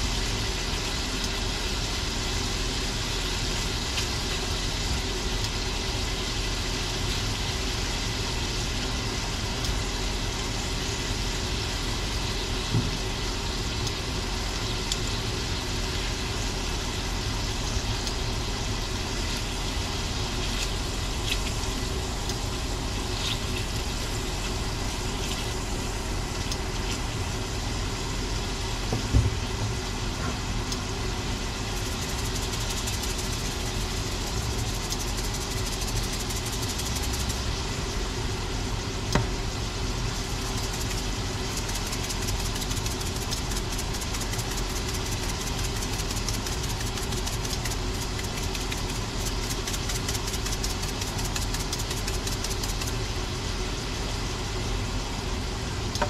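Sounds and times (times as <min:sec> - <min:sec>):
shrimp sizzling in frying pan: 0:00.0 - 0:28.7, 0:31.4 - 0:54.2
mechanical hum: 0:00.0 - 0:56.0.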